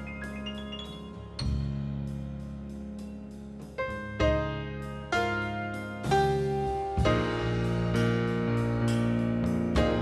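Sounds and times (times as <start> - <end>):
jazz ensemble playing: 0.0 - 10.0.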